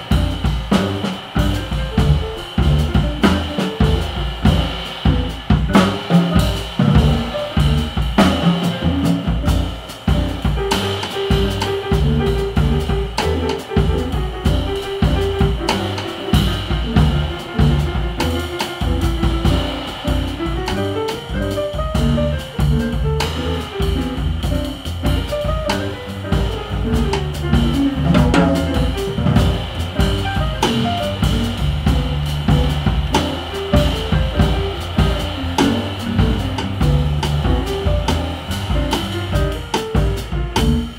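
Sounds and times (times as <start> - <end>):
bass: 0.0 - 40.9
drum kit groove: 0.0 - 40.9.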